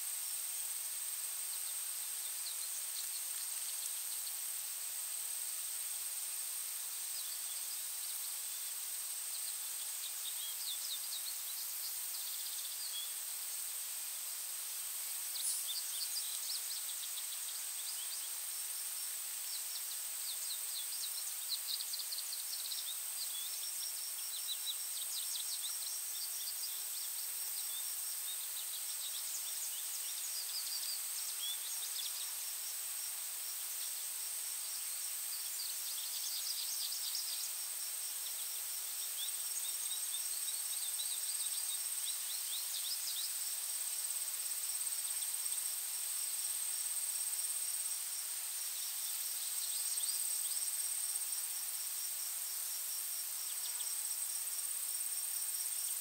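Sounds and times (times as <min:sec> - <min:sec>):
continuous even hiss: 0:00.0 - 0:56.0.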